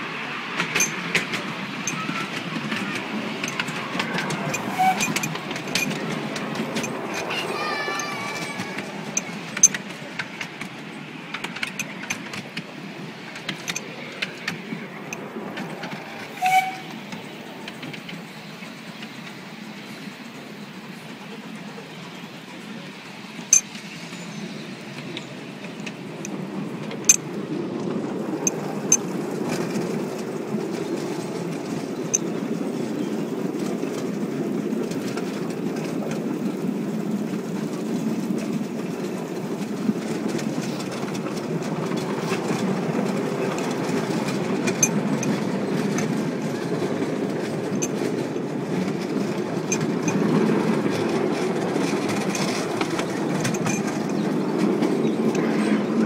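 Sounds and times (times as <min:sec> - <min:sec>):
small wheels rumbling on rail: 0:00.0 - 0:56.0.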